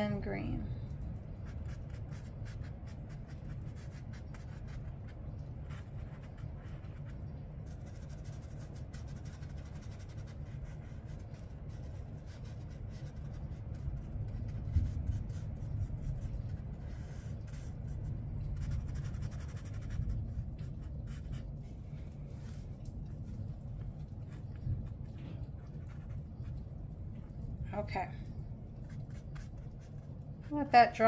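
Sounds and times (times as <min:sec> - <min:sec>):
low steady rumble: 0:00.0 - 0:31.0
brush stroking on paper: 0:01.3 - 0:27.3, 0:28.7 - 0:30.7.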